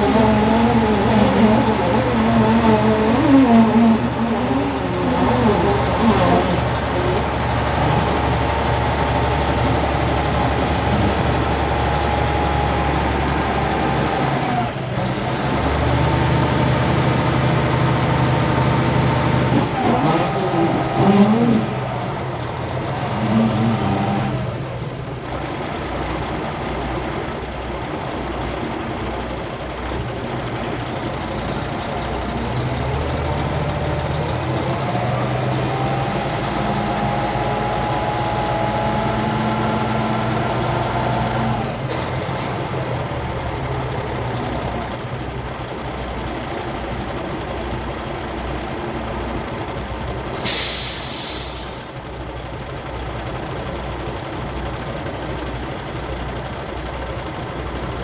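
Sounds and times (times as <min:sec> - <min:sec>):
whines and creaks: 0:00.0 - 0:49.8
diesel truck engine under load: 0:00.0 - 0:58.0.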